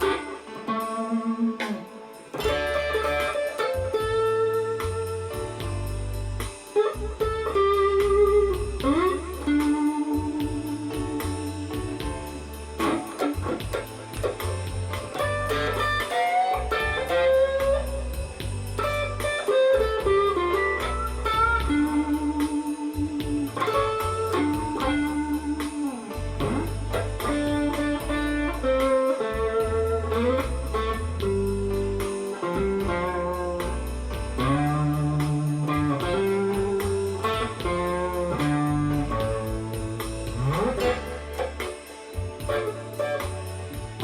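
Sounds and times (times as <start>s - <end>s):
backing track of bass and drums: 0.0s - 44.0s
electric guitar blues lead: 0.0s - 44.0s.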